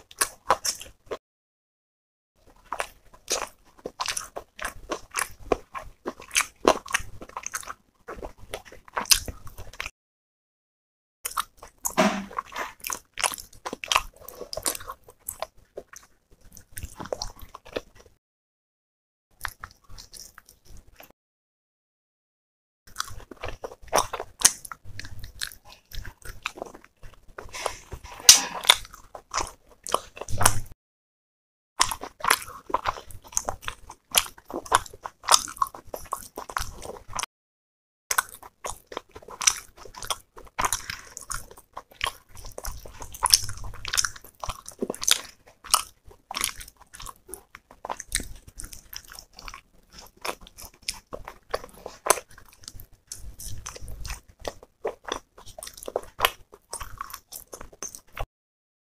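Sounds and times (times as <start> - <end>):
wet chewing and smacking: 0.0 - 1.2, 2.4 - 9.9, 11.3 - 18.2, 19.4 - 21.1, 22.9 - 30.8, 31.8 - 37.3, 38.1 - 58.3.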